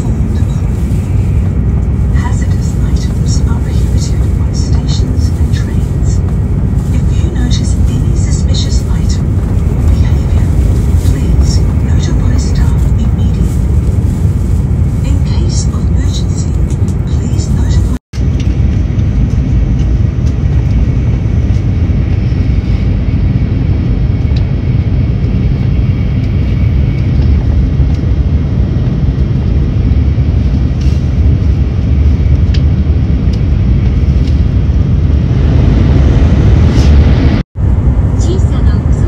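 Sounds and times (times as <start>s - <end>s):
train rumbling inside passenger car: 0.0s - 39.0s.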